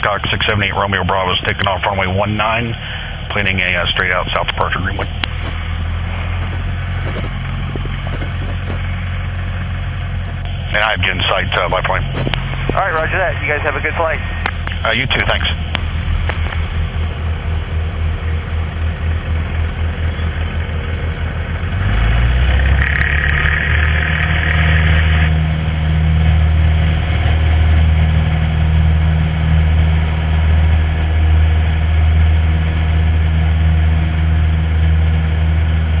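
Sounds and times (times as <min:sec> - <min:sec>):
steady high tone: 0:00.0 - 0:07.9, 0:08.5 - 0:34.1
small plane engine and propeller: 0:00.0 - 0:36.0.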